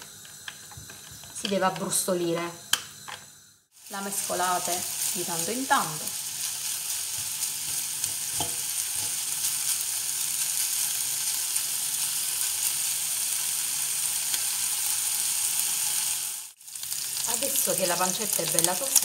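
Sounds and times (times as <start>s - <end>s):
meat sizzling in a frying pan: 3.7s - 19.0s.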